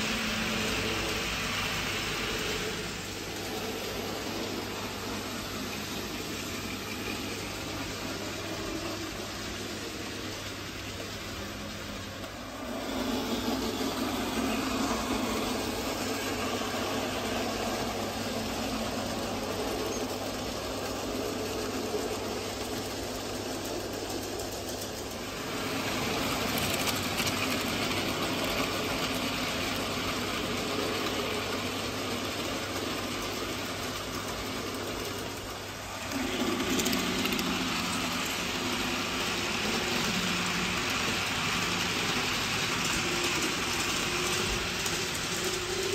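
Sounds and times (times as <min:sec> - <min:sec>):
model train motors humming: 0:00.0 - 0:45.9.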